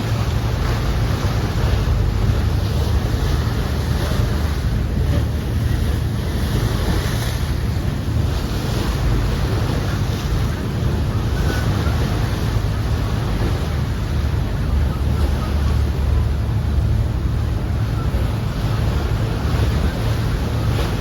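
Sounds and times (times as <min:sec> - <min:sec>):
rushing splashing water: 0:00.0 - 0:21.0
wind buffeting microphone: 0:00.0 - 0:21.0.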